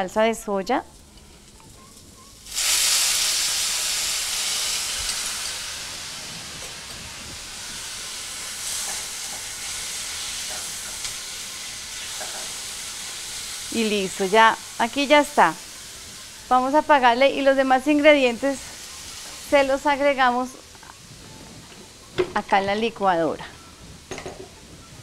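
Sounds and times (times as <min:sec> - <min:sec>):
sauce sizzling in hot pan: 0:00.8 - 0:25.0.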